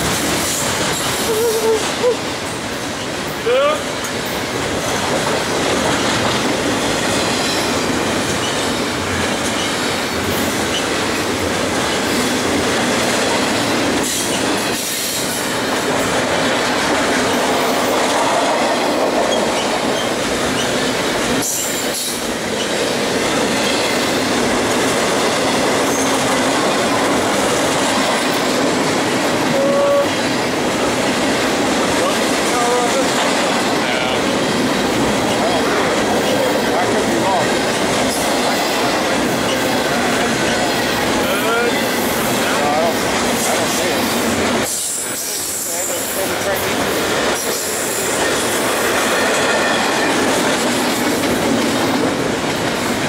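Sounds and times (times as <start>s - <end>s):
train wheels rushing on rail: 0.0s - 53.0s.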